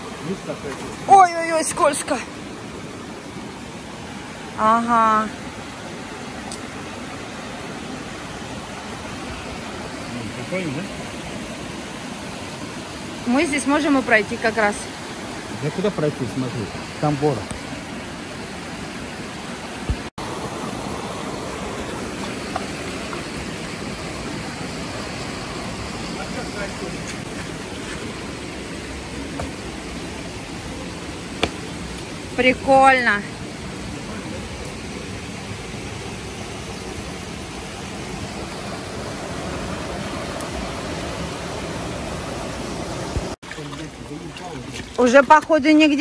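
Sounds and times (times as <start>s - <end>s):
river running over stones: 0.0s - 46.0s.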